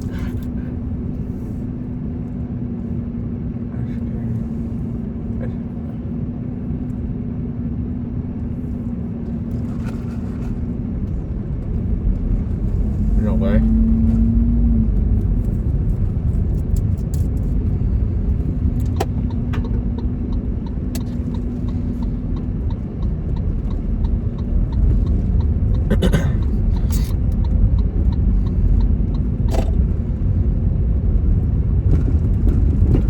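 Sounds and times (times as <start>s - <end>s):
road and engine rumble: 0.0s - 33.0s.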